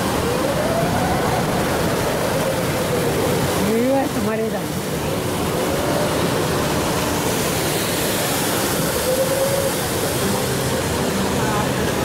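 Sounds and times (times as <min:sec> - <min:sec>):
fountain jet spraying: 0:00.0 - 0:12.0
water rushing and splashing: 0:00.0 - 0:12.0.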